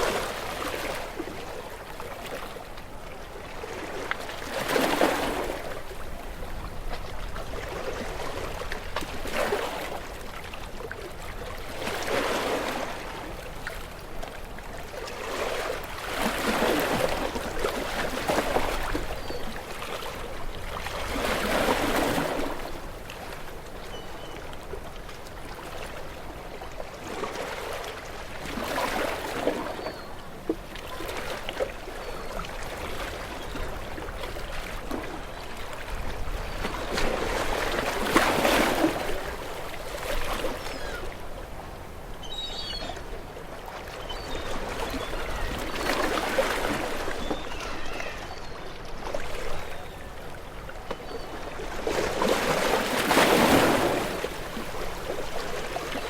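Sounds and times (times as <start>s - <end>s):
gentle waves washing onto shore: 0.0s - 56.0s.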